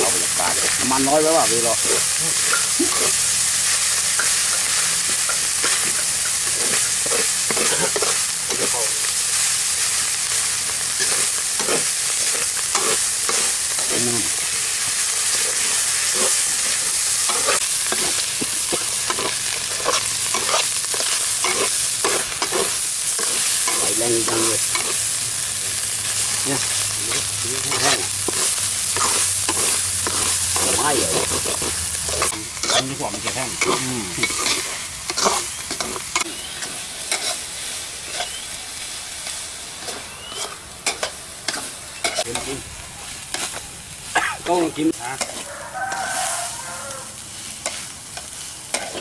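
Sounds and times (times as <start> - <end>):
meat sizzling in oil: 0.0 - 49.0
metal spatula scraping a wok: 1.8 - 38.4, 45.2 - 46.9, 47.5 - 49.0.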